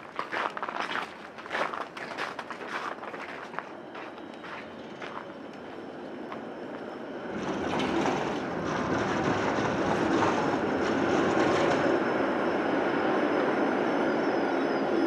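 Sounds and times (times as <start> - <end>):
tram rumble and wheel noise: 0.0 - 15.0.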